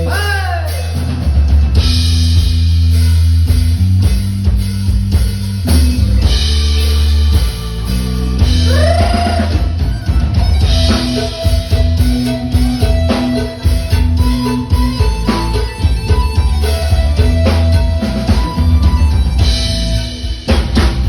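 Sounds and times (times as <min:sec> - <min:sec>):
live band instrumental: 0:00.0 - 0:21.0.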